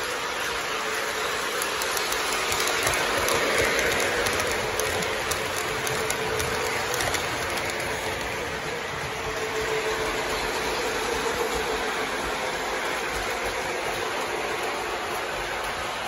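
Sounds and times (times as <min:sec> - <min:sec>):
model train rolling rumble: 0:00.0 - 0:16.0
wheels clicking over rail joints: 0:00.0 - 0:16.0.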